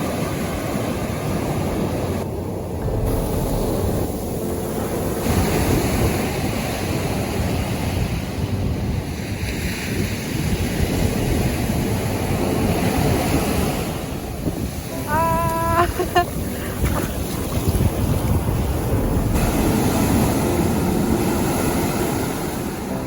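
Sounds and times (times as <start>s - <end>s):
surf breaking on beach: 0.0s - 23.0s
wind buffeting microphone: 0.0s - 23.0s.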